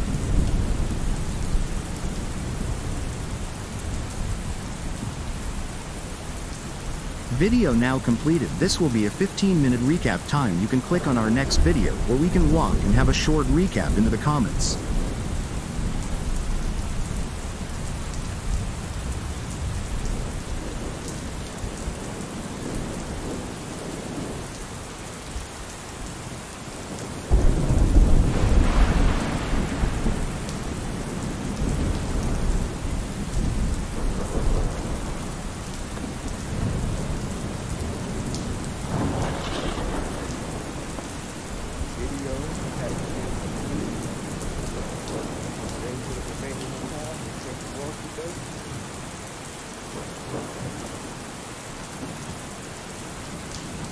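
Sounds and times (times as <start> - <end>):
thunder rumbling: 0.0 - 24.4, 27.0 - 47.8
steady rain: 0.0 - 53.9.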